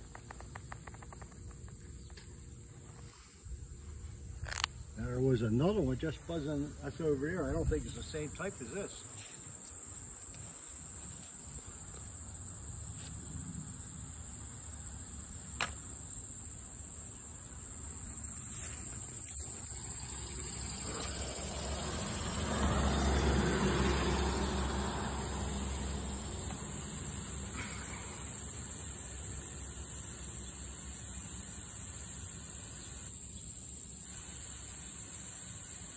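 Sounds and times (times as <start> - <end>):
insects trilling: 0.0 - 35.9.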